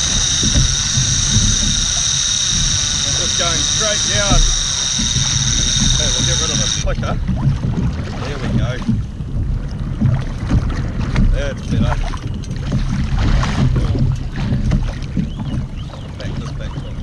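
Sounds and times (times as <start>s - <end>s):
waves splashing against hull: 2.0s - 17.0s.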